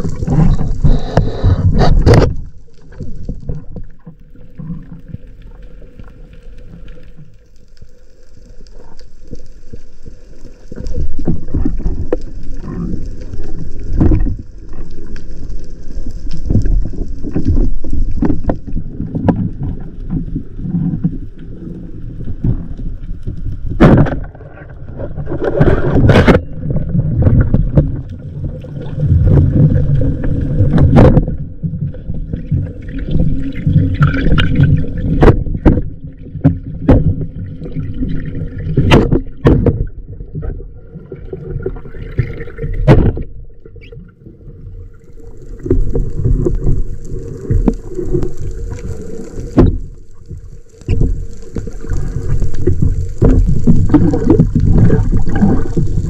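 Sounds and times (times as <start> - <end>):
underwater water rumble: 0.0 - 56.0
water gurgling: 0.0 - 56.0.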